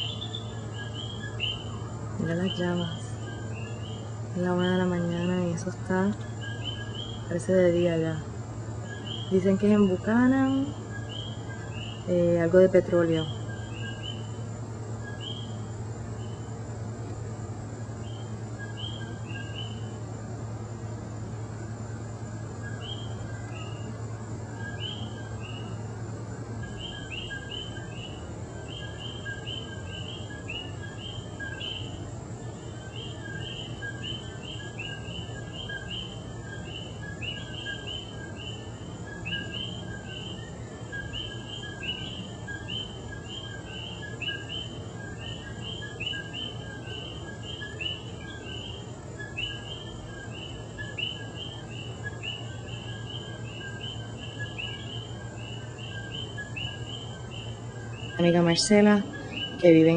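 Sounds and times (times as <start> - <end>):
frogs calling: 0.0 - 59.9
steady low hum: 0.0 - 59.9.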